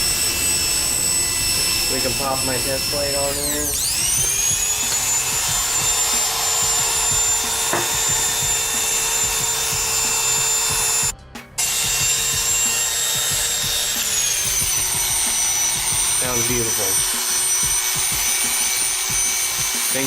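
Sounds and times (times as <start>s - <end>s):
hair clipper motor whine: 0.0s - 20.0s.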